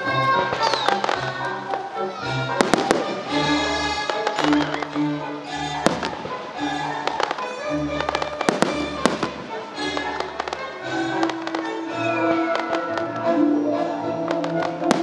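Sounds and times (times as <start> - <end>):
fireworks bursting with sharp bangs: 0.3 - 13.2, 14.3 - 15.0.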